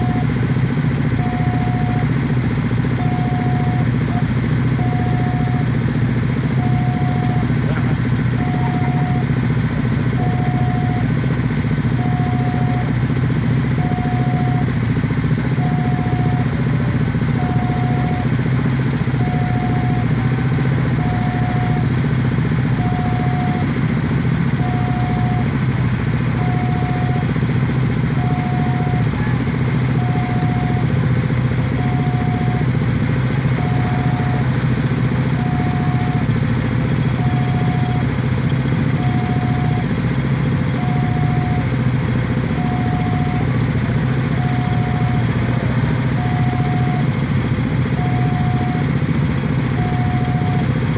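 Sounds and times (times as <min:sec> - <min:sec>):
level crossing warning alarm: 0:00.0 - 0:00.4, 0:01.1 - 0:02.1, 0:03.0 - 0:05.9, 0:06.5 - 0:09.5, 0:10.1 - 0:11.1, 0:11.9 - 0:13.1, 0:13.7 - 0:18.4, 0:19.0 - 0:23.8, 0:24.5 - 0:25.7, 0:26.3 - 0:32.8, 0:33.4 - 0:49.0, 0:49.6 - 0:50.9
motorcycle engines idling: 0:00.0 - 0:50.9.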